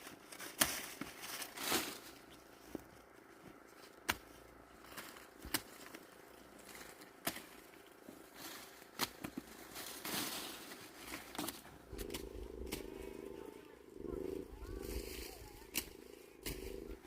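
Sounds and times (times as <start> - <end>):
dry corn plants rustling: 0.0 - 17.0.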